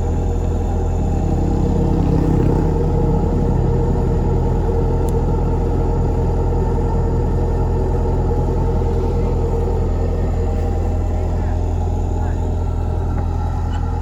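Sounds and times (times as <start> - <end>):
combine harvester diesel engine: 0.0 - 14.0.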